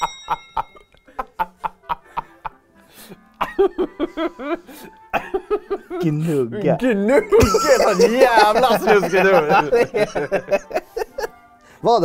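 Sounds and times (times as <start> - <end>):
men laughing: 0.0 - 6.4, 7.0 - 11.5.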